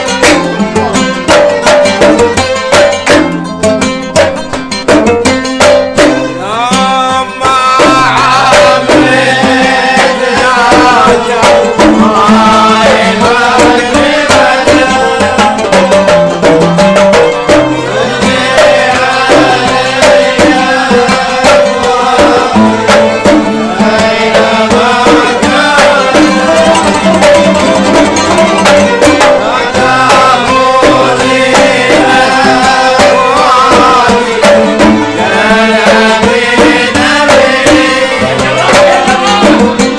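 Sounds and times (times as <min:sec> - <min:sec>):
hand drums beating: 0:00.0 - 0:39.9
violins and qanun melody: 0:00.0 - 0:39.9.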